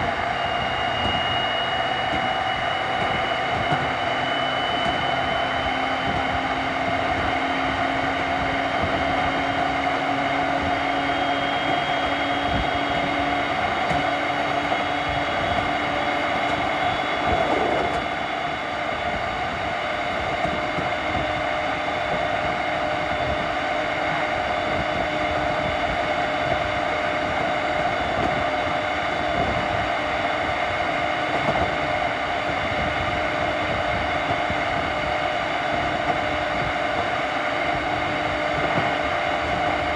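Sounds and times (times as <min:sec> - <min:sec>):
inverter and motor tones: 0:00.0 - 0:39.9
train wheels rolling on rail: 0:00.0 - 0:39.9.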